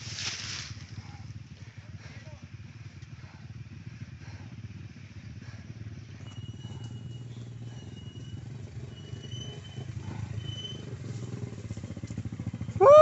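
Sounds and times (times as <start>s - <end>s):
dirt bike engines at low speed: 0.0s - 13.0s.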